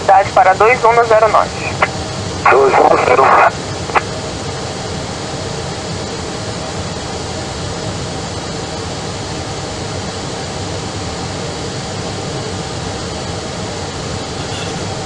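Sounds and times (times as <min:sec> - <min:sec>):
airliner cabin rumble and hiss: 0:00.0 - 0:15.0.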